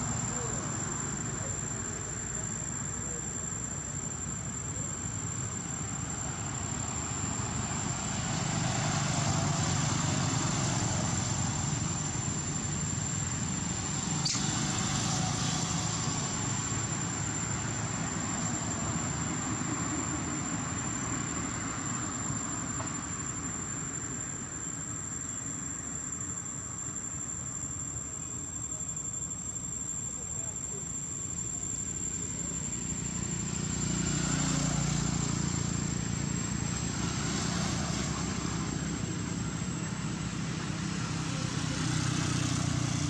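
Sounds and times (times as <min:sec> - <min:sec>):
high-pitched whine: 0:00.0 - 0:43.0.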